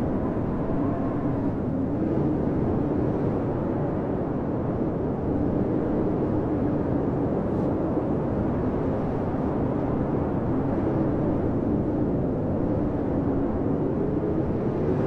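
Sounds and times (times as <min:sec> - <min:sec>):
blizzard wind howling: 0:00.0 - 0:15.0.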